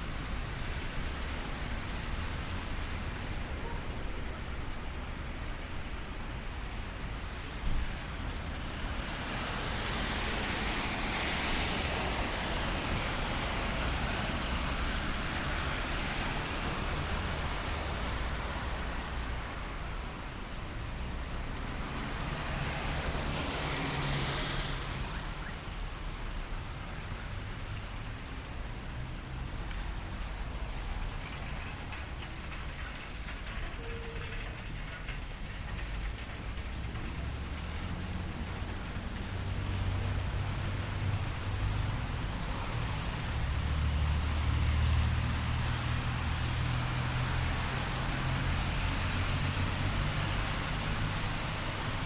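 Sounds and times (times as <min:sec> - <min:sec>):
light rain pattering on street: 0:00.0 - 0:52.0
traffic rumble: 0:00.0 - 0:52.0.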